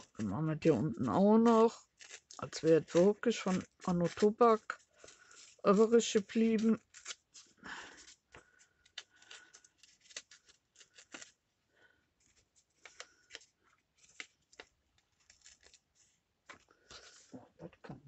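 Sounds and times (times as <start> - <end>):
paper rustling and clicking: 0.0 - 11.4, 12.2 - 17.3.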